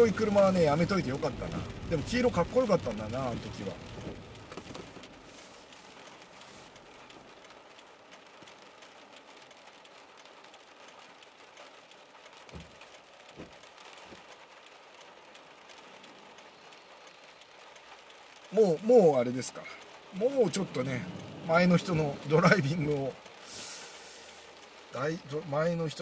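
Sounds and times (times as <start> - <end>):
rain on car windshield and roof: 0.0 - 26.0.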